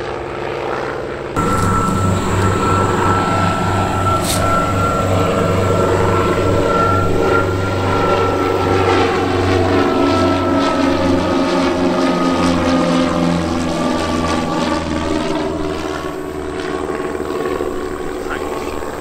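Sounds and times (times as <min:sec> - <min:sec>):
propeller plane engines droning: 0:00.0 - 0:19.0.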